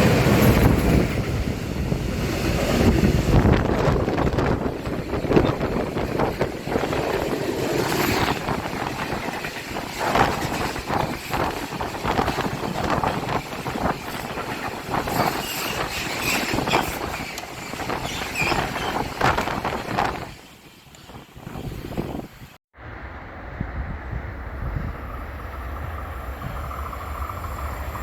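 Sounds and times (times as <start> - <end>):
train passing rumble: 0.0 - 28.0.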